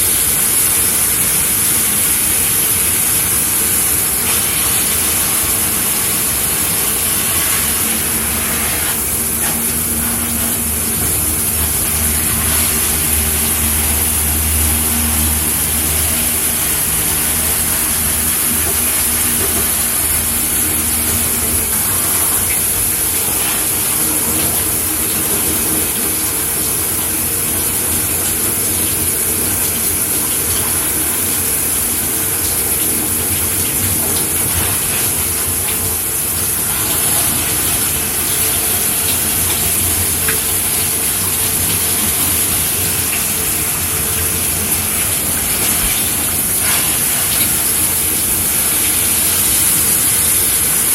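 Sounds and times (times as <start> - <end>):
shower spraying water: 0.0 - 50.9.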